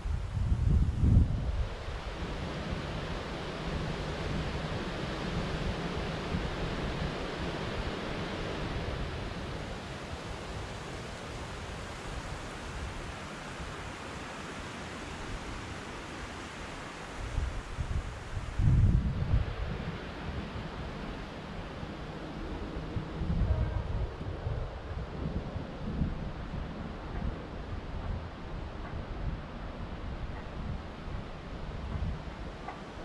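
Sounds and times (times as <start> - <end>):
white-noise rushing hiss: 0.0 - 33.0.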